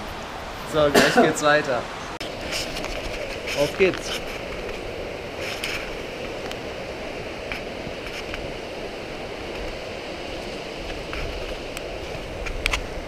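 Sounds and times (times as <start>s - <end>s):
mountain river rushing: 0.0s - 13.0s
rain: 0.0s - 13.0s.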